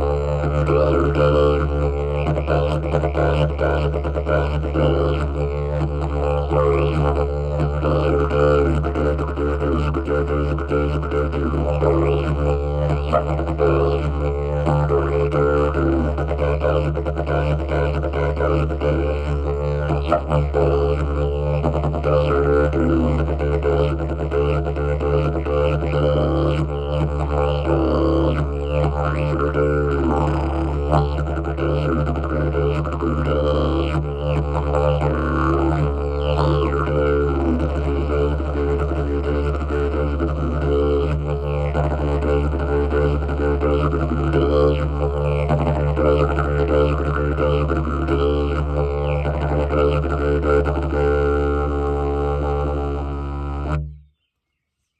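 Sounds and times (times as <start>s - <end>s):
didgeridoo drone: 0.0s - 54.0s.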